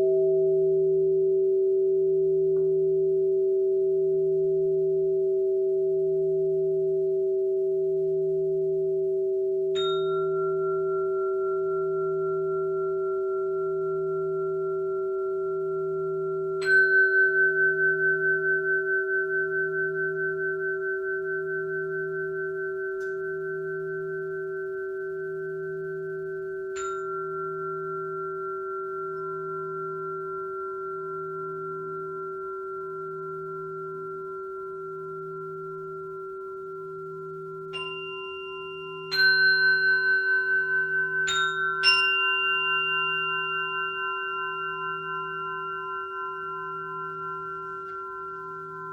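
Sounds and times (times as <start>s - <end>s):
metal singing bowls ringing: 2.0s - 48.9s.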